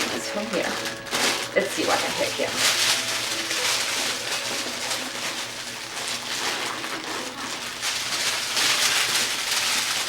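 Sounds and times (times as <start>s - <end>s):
puppies rustling and scuffling: 0.0s - 10.0s.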